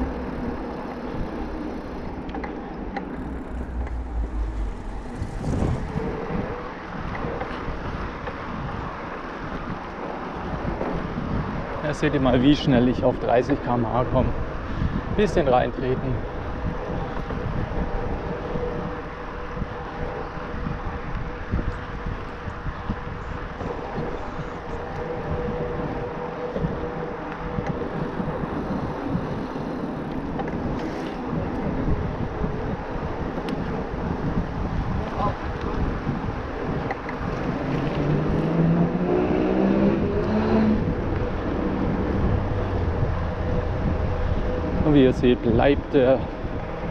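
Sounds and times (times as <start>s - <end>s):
low rumble of bike ride: 0.0s - 46.9s
wind buffeting microphone: 0.0s - 46.9s.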